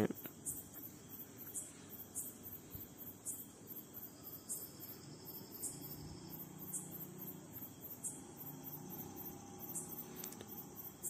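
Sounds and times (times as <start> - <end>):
insect chirping: 0.0 - 11.0
low background hum: 0.3 - 11.0.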